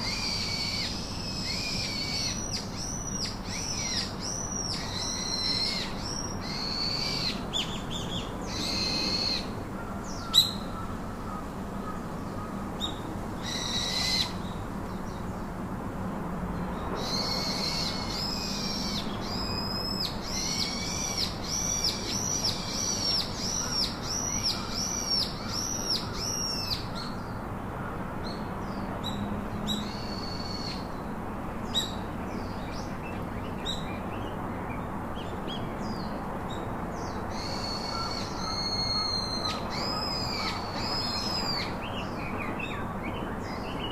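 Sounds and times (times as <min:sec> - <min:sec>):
birds calling: 0:00.0 - 0:15.4, 0:16.7 - 0:31.0, 0:31.7 - 0:43.9
steady outdoor hiss: 0:00.0 - 0:43.9.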